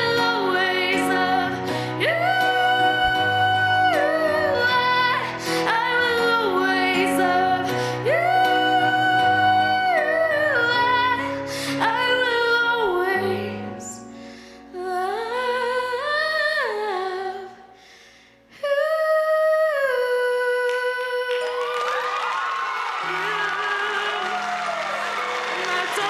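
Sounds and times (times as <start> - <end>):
woman singing: 0.0 - 14.1, 14.7 - 17.8, 18.5 - 21.8, 23.0 - 26.0.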